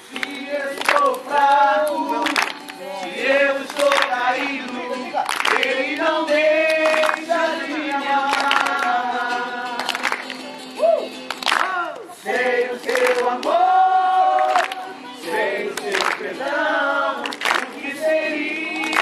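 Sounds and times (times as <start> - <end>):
voices singing a worship song: 0.0 - 10.5, 11.6 - 19.0.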